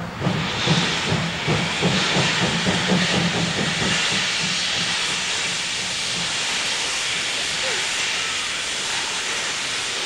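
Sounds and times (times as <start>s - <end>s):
steady hiss of steam: 0.0s - 10.0s
steam locomotive exhaust chuffs: 0.0s - 10.0s.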